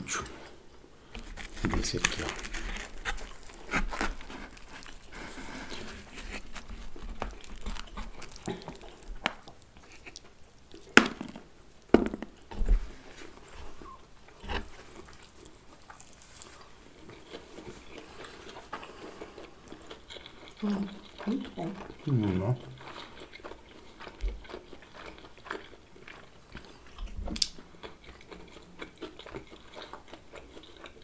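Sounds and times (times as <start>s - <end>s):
pizza being chewed: 0.0s - 31.0s.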